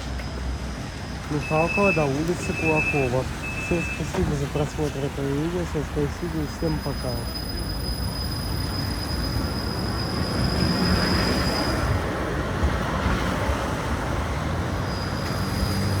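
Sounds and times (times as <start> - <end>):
tram rumbling on rails: 0.0 - 16.0.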